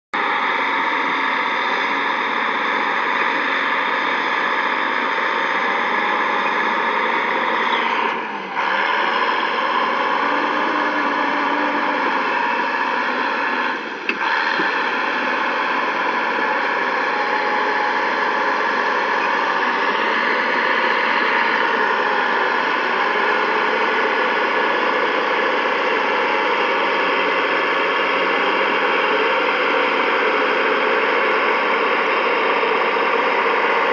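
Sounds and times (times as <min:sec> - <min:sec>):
bulldozer engine running: 0:00.2 - 0:33.9.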